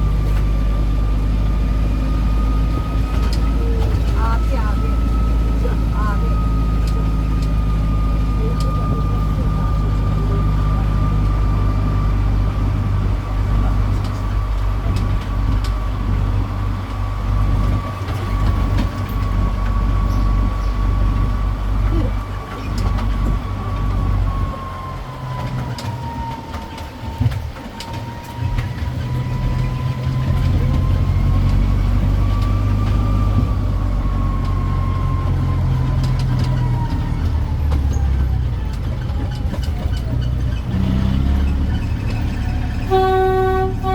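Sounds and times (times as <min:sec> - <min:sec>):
road train engine humming: 0:00.0 - 0:43.9.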